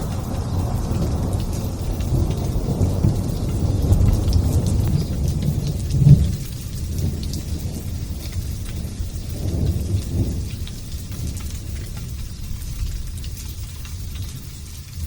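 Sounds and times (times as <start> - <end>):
light rain pattering: 0.0 - 15.0
thunder rumbling: 0.0 - 15.0.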